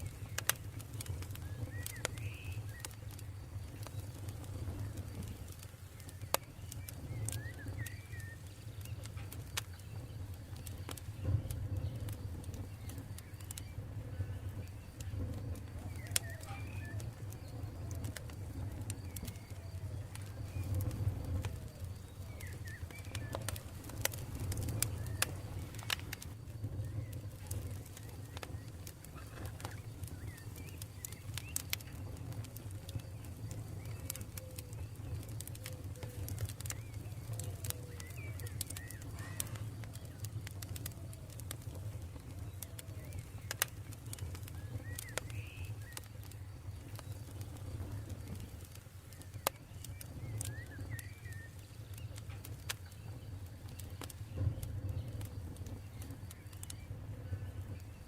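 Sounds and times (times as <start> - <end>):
birds chirping: 0.0 - 58.0
campfire crackling: 0.0 - 58.0.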